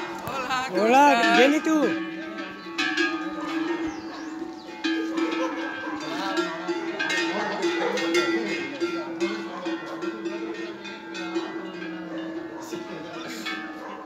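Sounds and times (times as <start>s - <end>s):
cowbell clanking: 0.0s - 14.0s.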